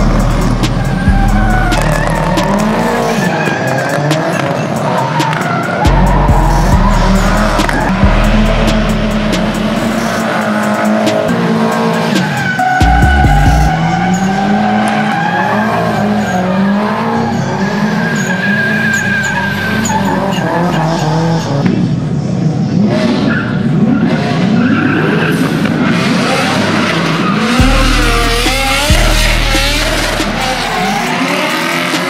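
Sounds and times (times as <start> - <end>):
car engines revving: 0.0 - 32.0
tyres squealing and skidding: 0.0 - 32.0.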